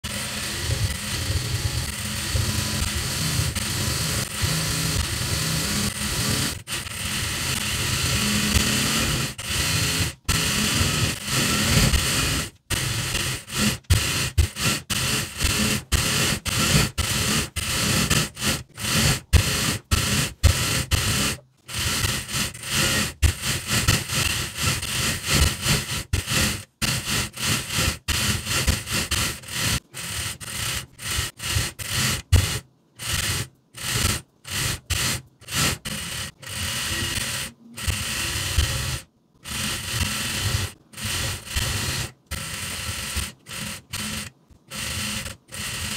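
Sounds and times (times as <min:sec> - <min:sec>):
sewing machine stitching: 0:00.0 - 0:45.9.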